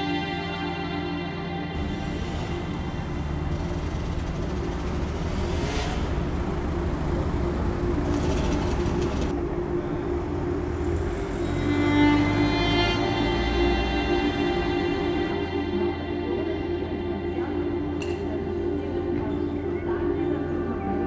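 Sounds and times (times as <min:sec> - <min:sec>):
slow ambient music: 0:00.0 - 0:21.0.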